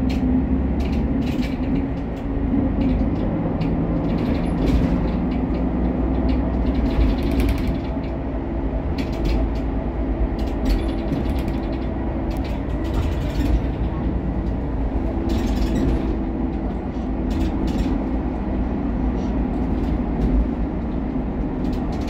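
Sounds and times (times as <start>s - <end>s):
bus engine and road rumble: 0.0s - 22.0s
interior creaks and rattles: 0.0s - 22.0s.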